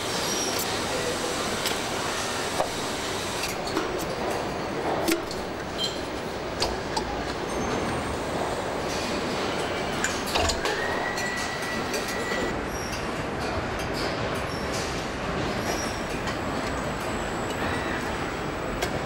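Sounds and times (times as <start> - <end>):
machinery hum and rumble: 0.0 - 19.0.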